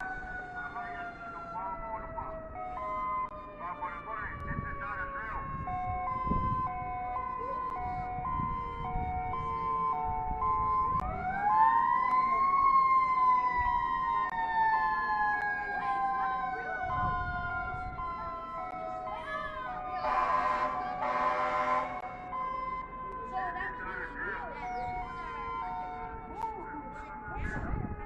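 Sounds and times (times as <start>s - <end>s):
high-low alternating siren: 0.0s - 28.0s
wailing siren: 0.0s - 28.0s.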